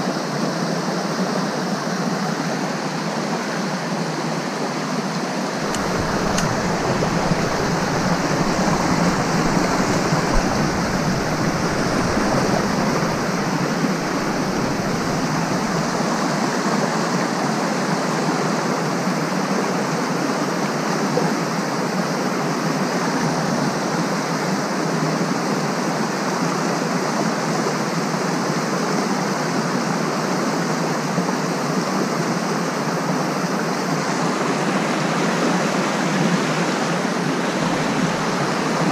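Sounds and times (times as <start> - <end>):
creek rushing over rocks: 4.7 - 38.9.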